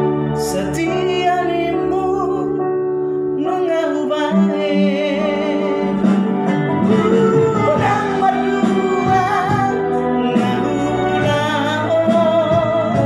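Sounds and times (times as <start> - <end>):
backing track of sustained chords: 0.0 - 13.0
man singing slow song: 0.4 - 2.8, 3.4 - 13.0.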